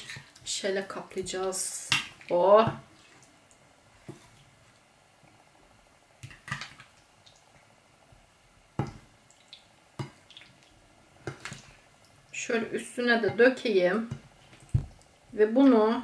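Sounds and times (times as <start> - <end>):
wet squelches of stirring: 0.0 - 5.4, 6.1 - 15.9.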